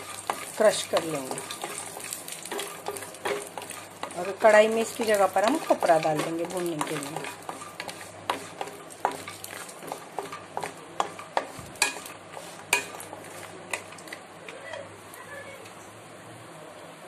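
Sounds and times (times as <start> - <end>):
wooden spatula scraping pan: 0.0 - 14.2
nuts clicking against pan: 0.0 - 15.0
faint sizzle: 0.0 - 17.0.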